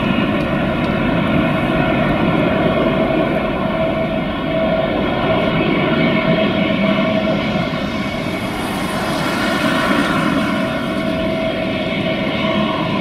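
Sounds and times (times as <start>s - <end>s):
jet engines at takeoff thrust: 0.0s - 13.0s.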